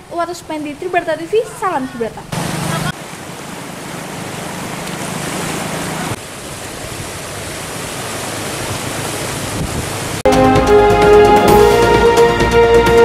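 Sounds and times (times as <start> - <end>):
whitewater rushing: 0.1 - 12.3.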